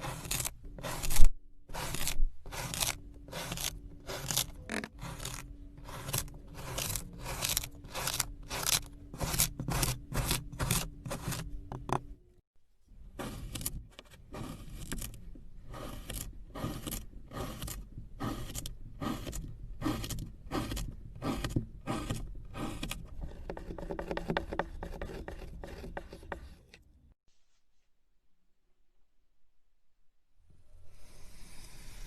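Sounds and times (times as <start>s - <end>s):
scraping strokes: 0.0s - 11.5s, 13.0s - 27.8s.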